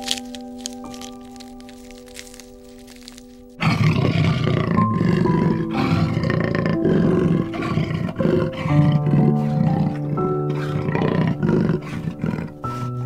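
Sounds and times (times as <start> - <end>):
background music chord: 0.0 - 13.0
rough animal call: 0.0 - 13.0.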